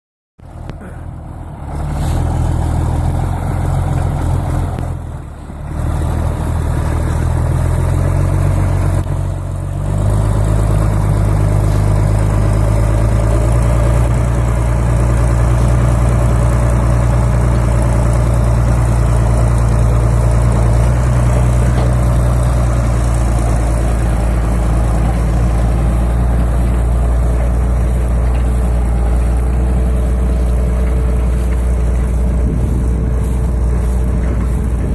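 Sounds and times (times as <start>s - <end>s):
tractor diesel engine under load: 0.4s - 34.9s.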